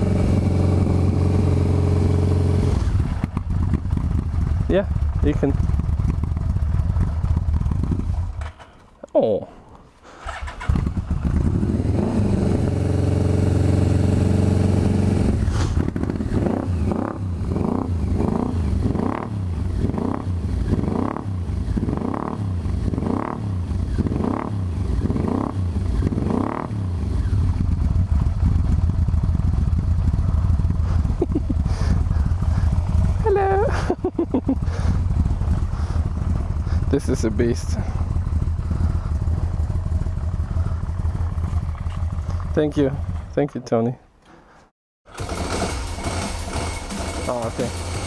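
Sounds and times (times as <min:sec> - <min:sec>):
motorcycle engine revving: 0:00.0 - 0:08.8, 0:10.2 - 0:43.4, 0:45.1 - 0:48.0
motorcycle engine starting and idling: 0:00.0 - 0:09.4, 0:10.1 - 0:43.4, 0:45.1 - 0:48.0.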